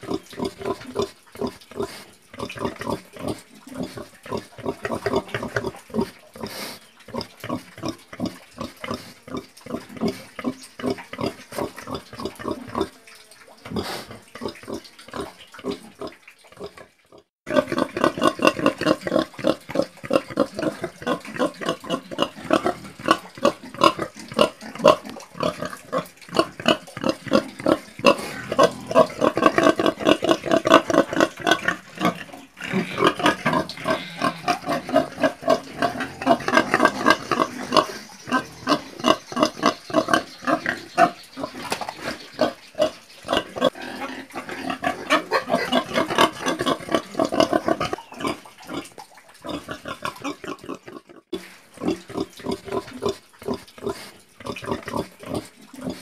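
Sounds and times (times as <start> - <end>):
pigs grunting: 0.0 - 13.0, 13.6 - 56.0.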